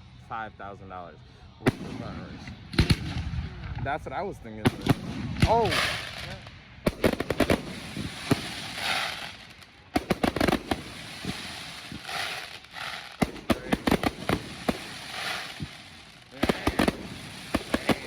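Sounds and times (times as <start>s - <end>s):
fireworks hissing crackle: 0.0s - 18.0s
fireworks bangs: 1.6s - 18.0s.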